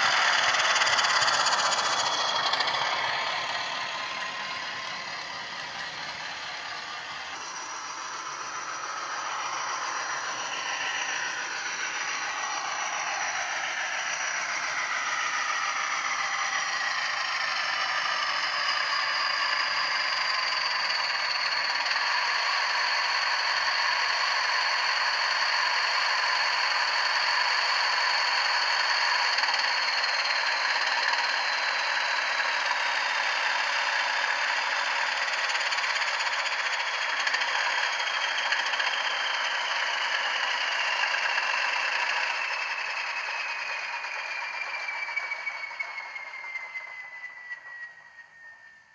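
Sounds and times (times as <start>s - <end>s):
diesel engine sound from small speaker: 0.0s - 48.9s
falling engine whine: 0.0s - 48.9s.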